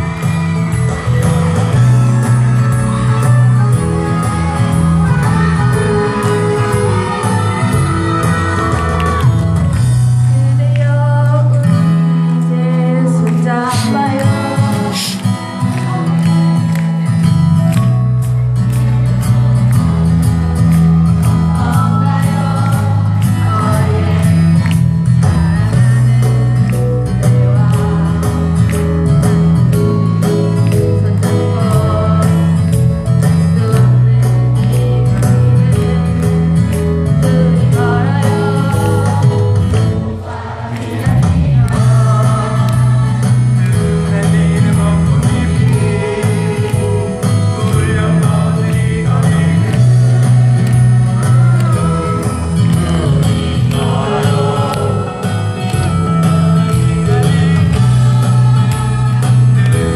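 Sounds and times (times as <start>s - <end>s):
amplified music with singers: 0.0s - 59.9s.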